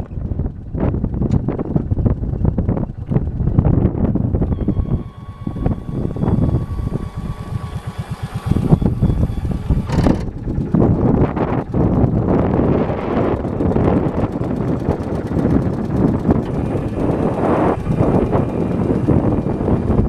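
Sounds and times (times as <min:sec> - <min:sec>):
utility vehicle engine running: 0:00.0 - 0:20.0
wind buffeting microphone: 0:00.0 - 0:20.0.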